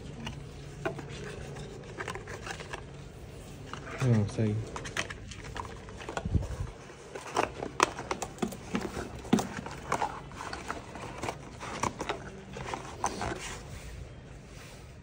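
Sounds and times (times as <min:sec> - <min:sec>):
handling clicks and rustles: 0:00.0 - 0:14.3.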